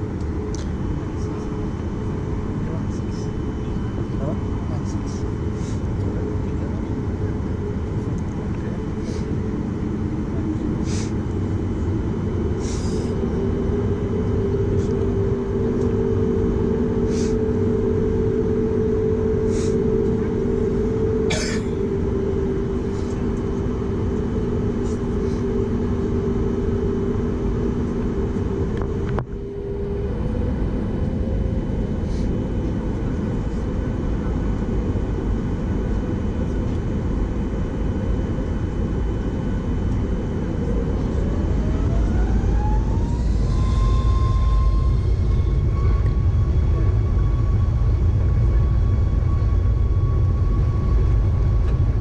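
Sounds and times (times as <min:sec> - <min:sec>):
jet engine whine: 0:00.0 - 0:52.0
low engine rumble: 0:00.0 - 0:52.0.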